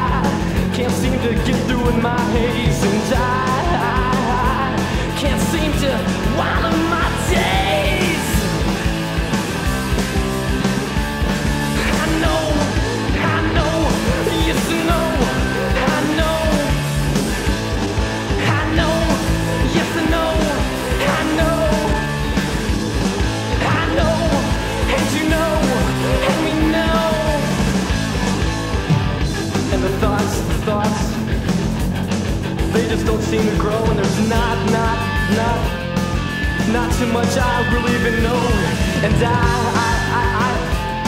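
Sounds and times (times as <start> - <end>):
bending pitched guitar line: 0.0 - 41.0
rock band playing instrumental: 0.0 - 41.0.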